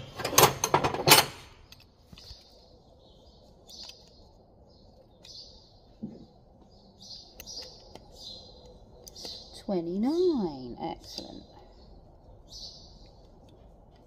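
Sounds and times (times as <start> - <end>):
faint bird chirps: 2.0 - 13.6.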